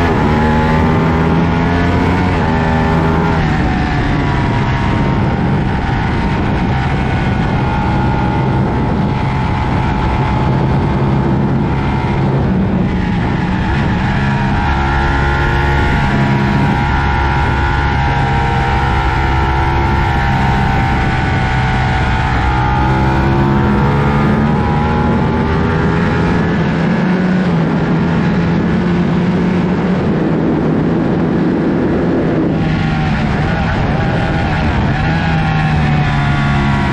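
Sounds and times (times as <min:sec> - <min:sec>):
motorcycle engine running hard: 0:00.0 - 0:36.9
wind rush: 0:00.0 - 0:36.9.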